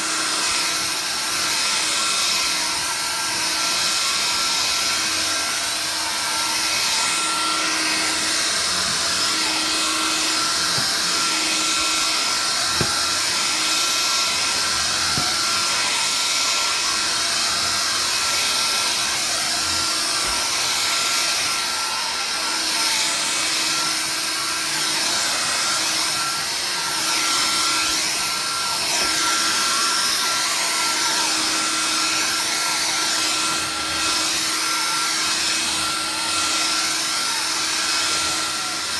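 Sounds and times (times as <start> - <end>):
cordless vacuum cleaner running: 0.0 - 38.9.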